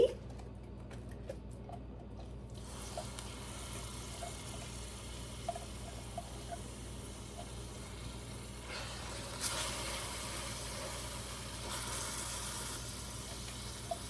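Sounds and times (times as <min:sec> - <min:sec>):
onions sizzling in oil: 0:02.6 - 0:14.0.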